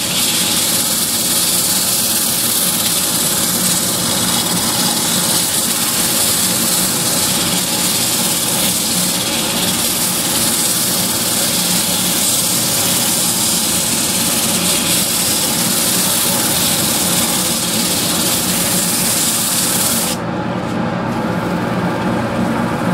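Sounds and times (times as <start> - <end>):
lathe motor hum: 0.0 - 20.2
loud even hiss: 0.0 - 20.2.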